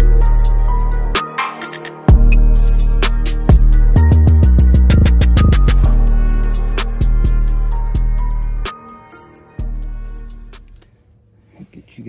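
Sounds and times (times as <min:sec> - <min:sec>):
music with drum beat and bass: 0:00.0 - 0:10.8.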